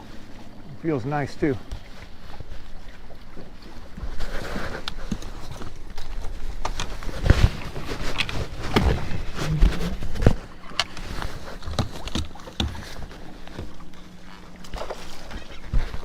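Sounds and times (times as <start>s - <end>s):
low rumbling wind: 0.0s - 16.0s
water noise: 0.0s - 16.0s
knocks and thumps on boat: 3.1s - 16.0s.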